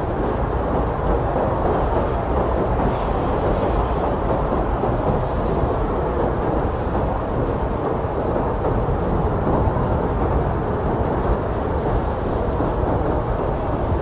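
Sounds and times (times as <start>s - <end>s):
blizzard wind blowing hard: 0.0s - 14.0s.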